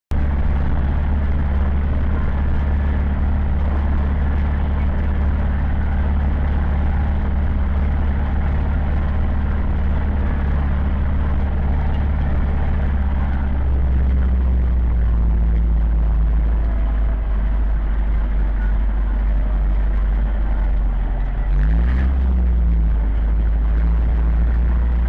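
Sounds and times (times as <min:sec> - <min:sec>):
tractor diesel engine droning: 0:00.0 - 0:25.0.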